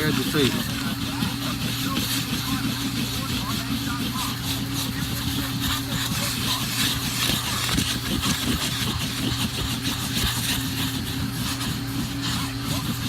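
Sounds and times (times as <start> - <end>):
nozzle scraping carpet: 0.0 - 13.0
vacuum cleaner running: 0.0 - 13.0.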